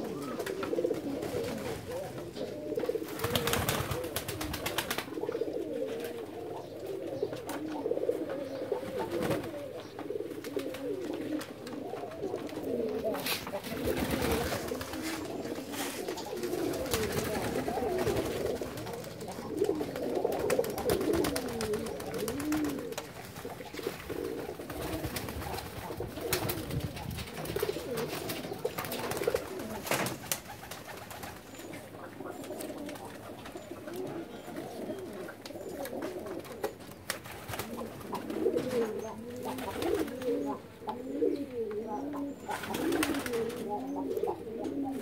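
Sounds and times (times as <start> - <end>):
pigeons cooing: 0.0 - 45.0.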